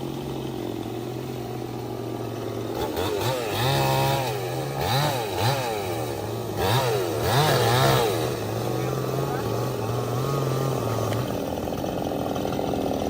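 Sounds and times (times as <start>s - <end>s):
chainsaw idling and revving: 0.0s - 13.0s.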